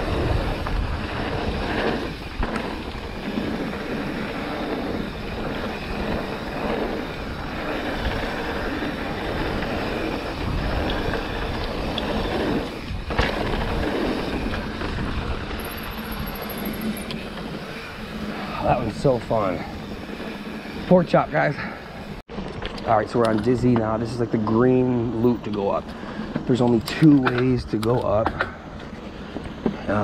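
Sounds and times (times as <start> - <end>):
tyres on dirt: 0.0 - 30.0
wind buffeting microphone: 0.0 - 30.0.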